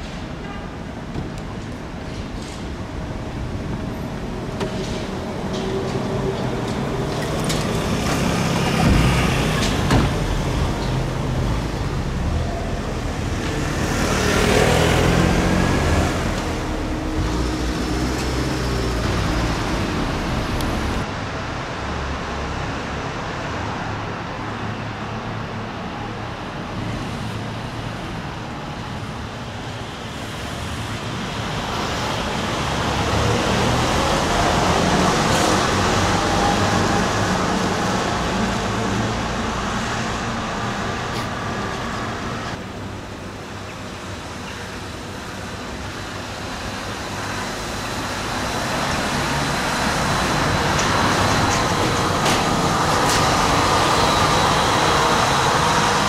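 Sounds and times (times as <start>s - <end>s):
steady traffic noise: 0.0s - 56.0s
trolleybuses passing: 0.0s - 56.0s.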